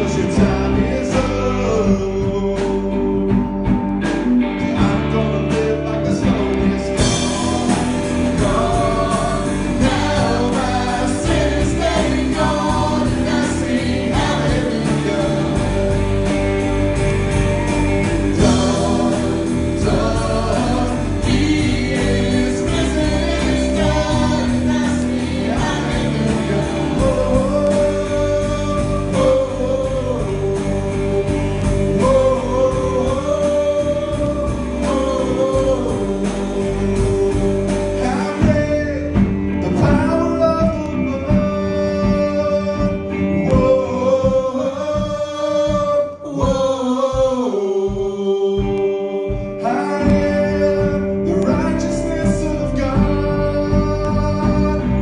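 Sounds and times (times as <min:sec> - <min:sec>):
instrumental accompaniment: 0:00.0 - 0:55.0
low beats: 0:00.0 - 0:55.0
person singing: 0:00.0 - 0:55.0.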